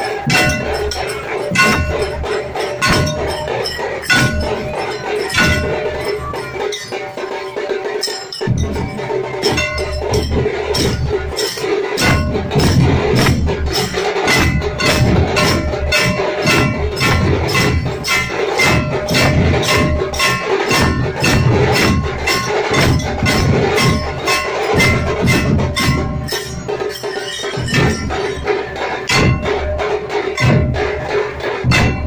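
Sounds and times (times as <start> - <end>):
brass hand cymbals clashing: 0.0 - 32.0
loud drumming: 0.0 - 32.0.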